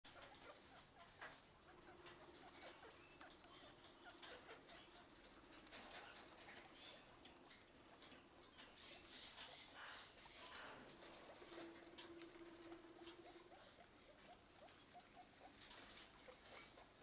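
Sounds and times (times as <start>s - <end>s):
guinea pig purring: 0.1s - 17.0s
guinea pig squeaks: 0.1s - 17.0s.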